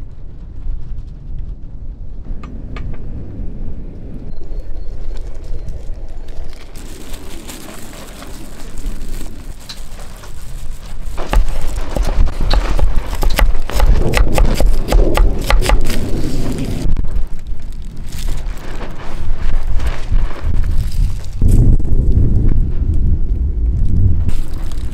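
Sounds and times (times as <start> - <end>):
gusty wind buffeting microphone: 0.0 - 24.9.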